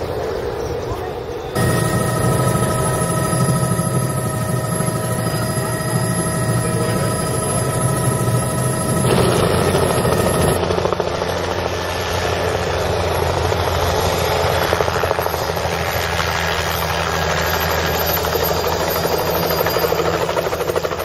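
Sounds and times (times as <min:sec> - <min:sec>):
helicopter rotor running: 0:00.0 - 0:21.0.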